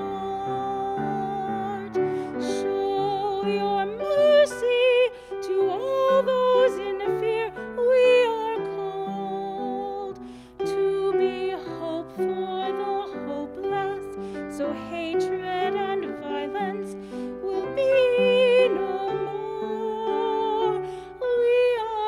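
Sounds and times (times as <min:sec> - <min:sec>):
woman singing a hymn: 0:00.0 - 0:22.0.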